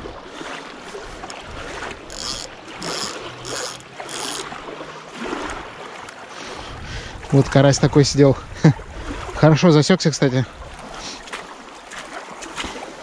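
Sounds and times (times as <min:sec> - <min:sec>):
water splashes: 0:00.0 - 0:13.0.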